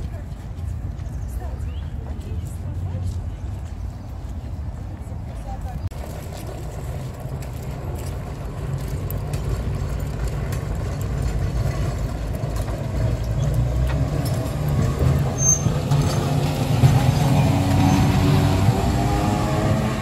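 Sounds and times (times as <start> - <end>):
tram rumbling past on rails: 0.0 - 20.0.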